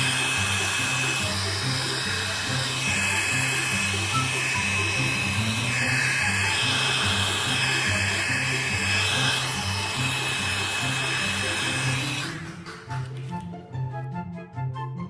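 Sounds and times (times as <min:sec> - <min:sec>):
thin high whine: 0:00.0 - 0:12.3
electric motor machine whirring: 0:00.0 - 0:13.5.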